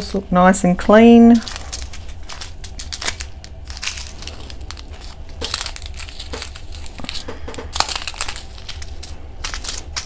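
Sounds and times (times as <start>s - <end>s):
plastic bags crinkling: 1.1s - 10.0s.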